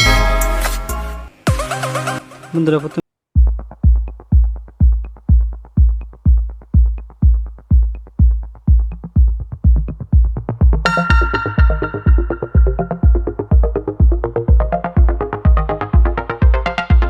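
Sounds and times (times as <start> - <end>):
drum machine kick: 0.0 - 1.7, 3.4 - 17.0.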